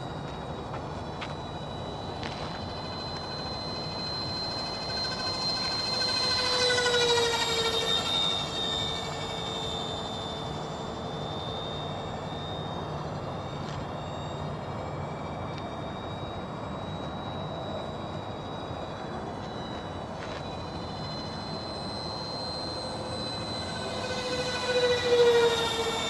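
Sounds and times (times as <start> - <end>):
model jet fans whining: 0.0 - 26.0.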